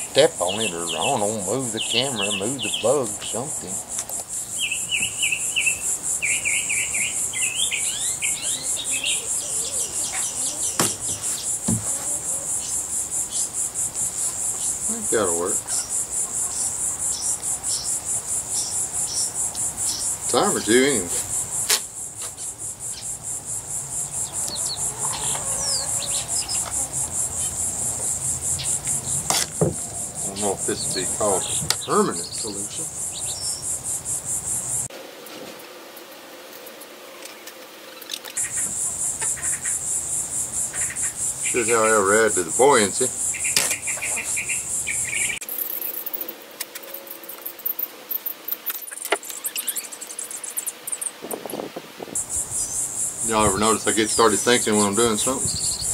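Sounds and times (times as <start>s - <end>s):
cricket chirping: 0.0s - 35.2s, 35.8s - 55.9s.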